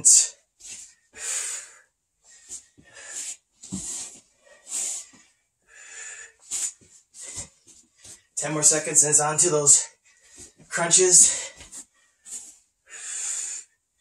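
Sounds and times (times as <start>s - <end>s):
man breathing heavily: 0.0s - 8.4s, 9.7s - 13.9s.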